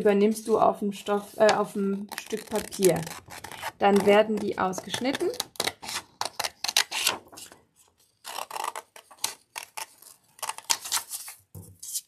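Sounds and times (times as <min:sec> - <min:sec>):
scissors cutting paper: 0:01.5 - 0:07.5, 0:08.2 - 0:12.0.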